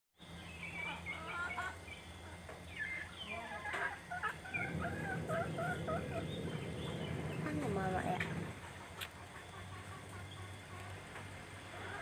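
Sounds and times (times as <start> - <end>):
chickens chirping: 0.2 - 12.0
low steady hum: 0.2 - 12.0.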